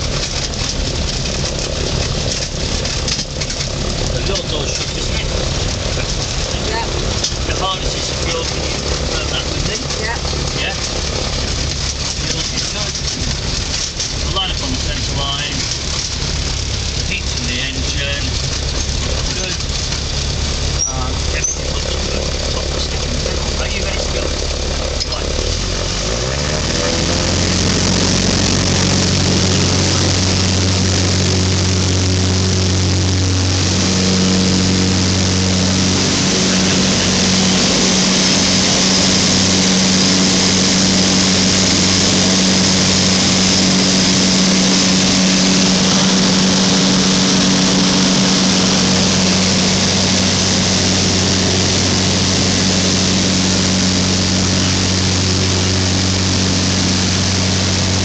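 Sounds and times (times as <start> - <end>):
microlight engine and propeller: 0.0 - 58.0.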